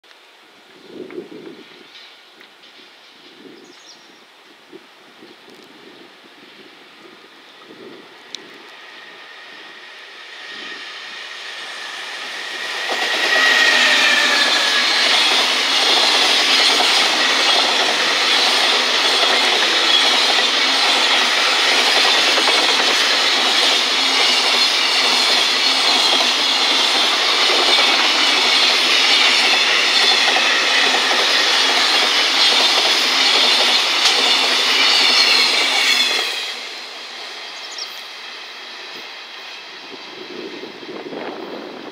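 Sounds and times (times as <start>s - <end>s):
electric locomotive passing: 5.2s - 41.9s.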